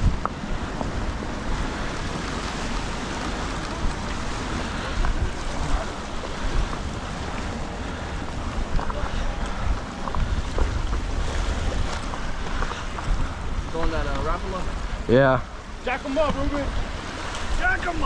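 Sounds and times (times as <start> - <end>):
ocean waves: 0.0 - 18.0
wind buffeting microphone: 0.0 - 18.0.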